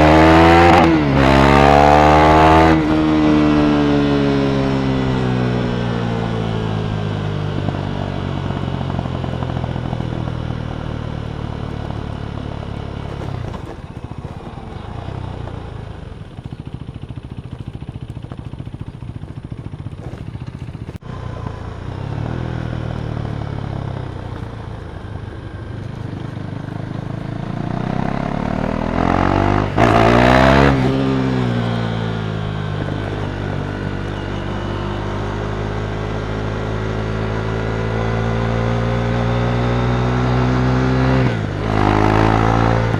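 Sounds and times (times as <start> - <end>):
single-cylinder motorcycle engine: 0.0 - 42.9.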